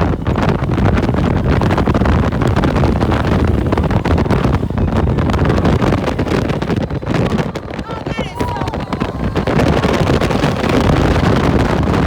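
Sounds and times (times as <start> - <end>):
ride vehicle rumbling: 0.0 - 12.0
wind buffeting microphone: 0.0 - 12.0.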